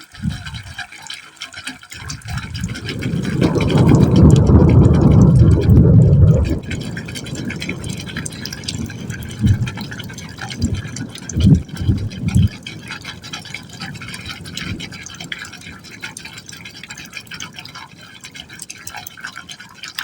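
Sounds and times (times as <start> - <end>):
water splashing into a pipe: 0.0 - 20.0.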